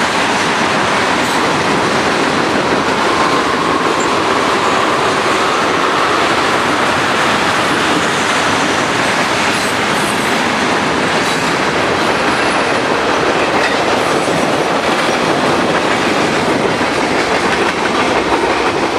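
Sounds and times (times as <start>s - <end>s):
freight train wheels clattering: 0.0s - 18.9s.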